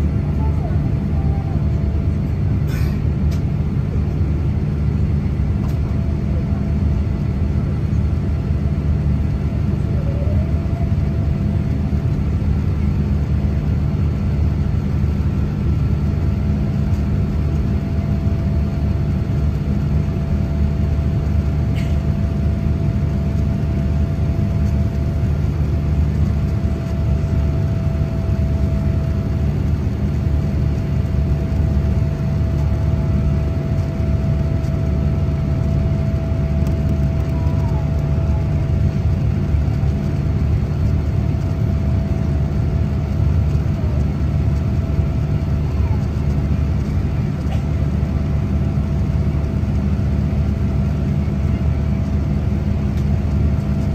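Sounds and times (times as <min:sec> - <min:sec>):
faint engine whine: 0:00.0 - 0:53.9
jet engines low rumble: 0:00.0 - 0:53.9.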